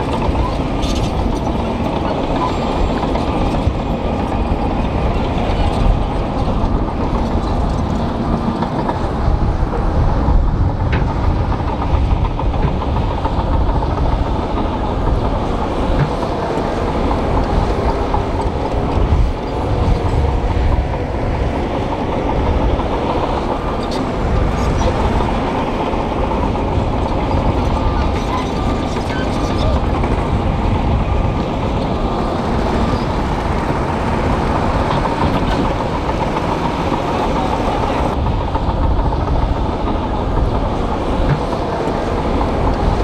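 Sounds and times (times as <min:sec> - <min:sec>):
diesel engine under load: 0:00.0 - 0:43.0
steel tracks clanking: 0:00.0 - 0:43.0.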